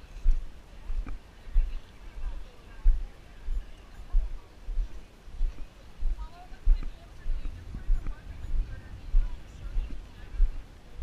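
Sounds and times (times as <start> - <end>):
faint crowd voices: 0.0 - 11.0.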